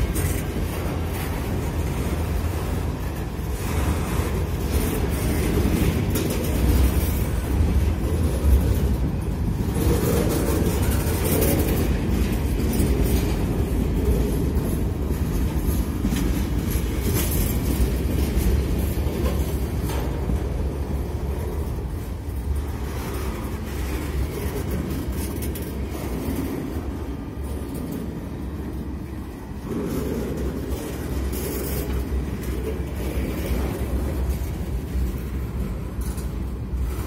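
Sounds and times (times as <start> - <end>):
steel wheels rumbling on rails: 0.0 - 37.0.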